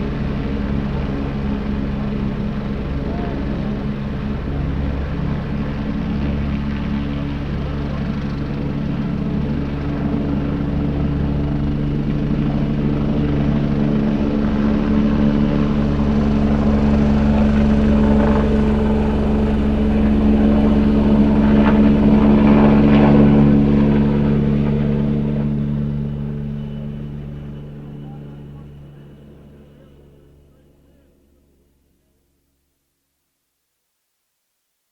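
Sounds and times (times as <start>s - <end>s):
distant helicopter drone: 0.0s - 32.2s.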